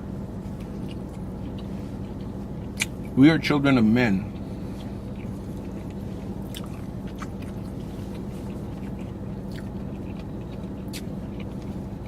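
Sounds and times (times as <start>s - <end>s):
man chewing food: 0.0s - 3.2s, 4.3s - 12.0s
steady low hum: 0.0s - 12.0s.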